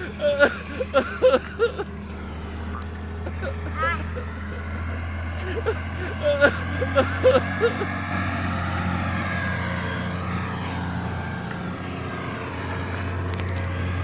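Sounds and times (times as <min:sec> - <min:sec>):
motor engine running: 0:00.0 - 0:14.0.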